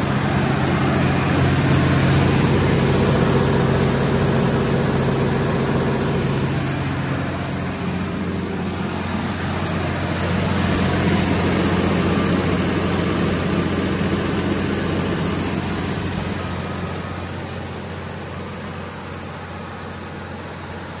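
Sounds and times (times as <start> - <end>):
diesel generator engine hum: 0.0 - 21.0.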